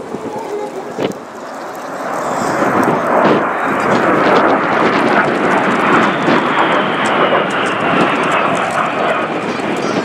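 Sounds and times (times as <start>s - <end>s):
jet engines flying by: 0.0s - 10.0s.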